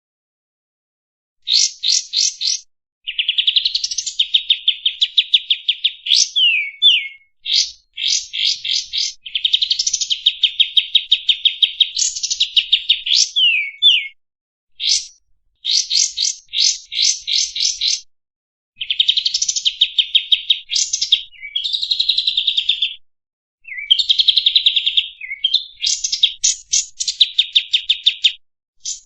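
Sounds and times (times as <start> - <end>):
songbird singing: 1.4 - 18.1, 18.8 - 23.0, 23.6 - 29.0.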